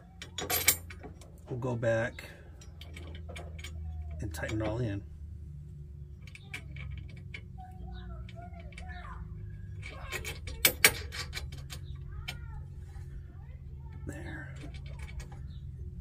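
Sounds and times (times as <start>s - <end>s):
metal bolts and nuts clinking: 0.0s - 1.8s, 2.5s - 5.0s, 6.1s - 12.6s, 13.7s - 15.8s
steady low hum: 0.0s - 16.0s.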